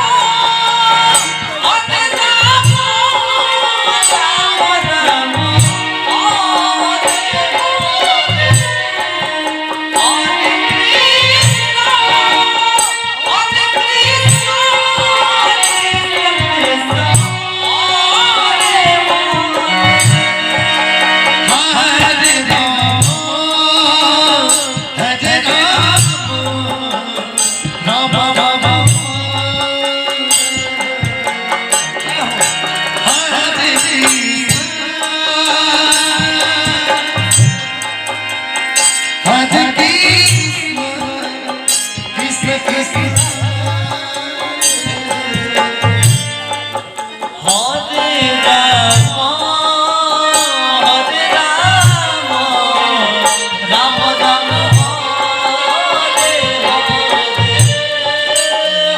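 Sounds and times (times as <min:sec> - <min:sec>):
devotional singing: 0:00.0 - 0:58.9
tabla drum beat: 0:00.0 - 0:58.9.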